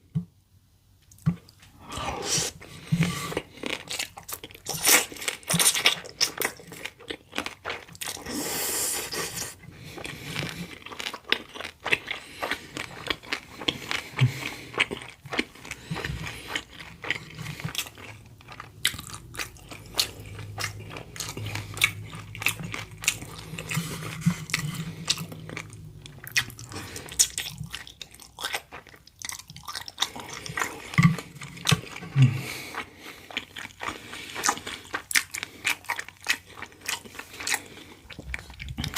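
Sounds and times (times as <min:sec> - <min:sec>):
crisp crunching chewing: 0:03.0 - 0:08.3, 0:09.1 - 0:38.9.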